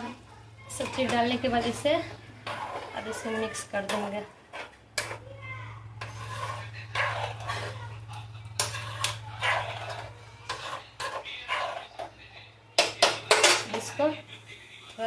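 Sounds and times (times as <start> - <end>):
spoon scraping a cooking pan: 0.7 - 5.2, 5.8 - 14.2.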